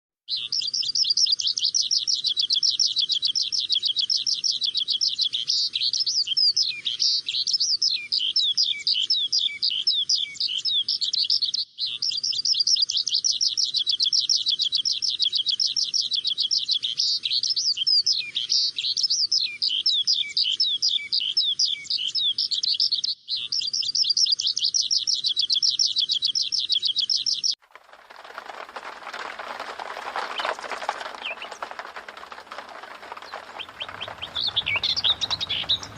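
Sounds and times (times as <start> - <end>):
small birds chirping: 0.3 - 35.9.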